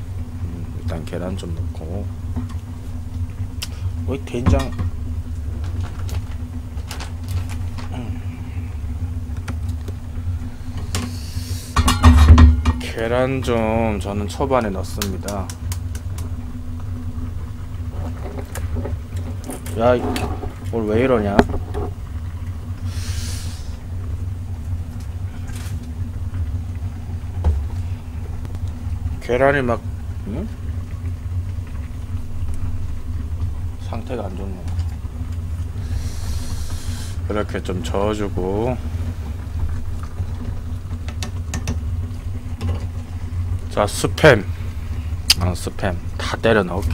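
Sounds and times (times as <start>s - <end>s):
gas burner rumbling: 0.0s - 46.9s.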